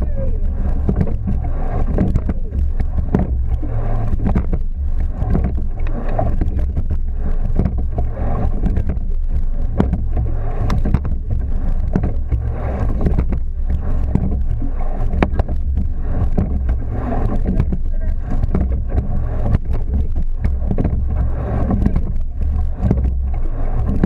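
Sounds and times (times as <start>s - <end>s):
low rumble: 0.0s - 24.0s
oars and rigging clicking: 0.0s - 24.0s
water rushing along hull: 0.0s - 24.0s.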